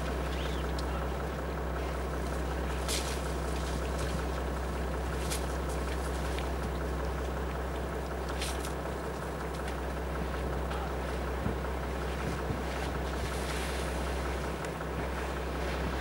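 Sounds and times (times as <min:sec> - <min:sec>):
engine idling hum: 0:00.0 - 0:16.0
wet mud splashes: 0:00.0 - 0:16.0.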